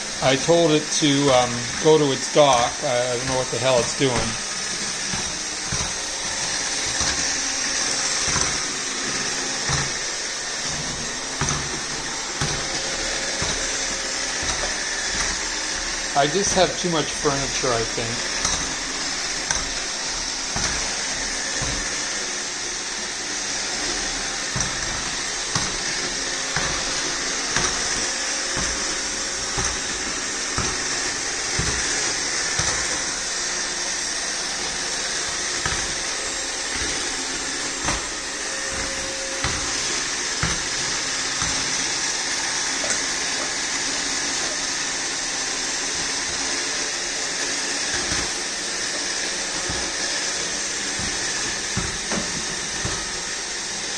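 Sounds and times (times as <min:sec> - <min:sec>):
robot vacuum whirring: 0:00.0 - 0:53.9.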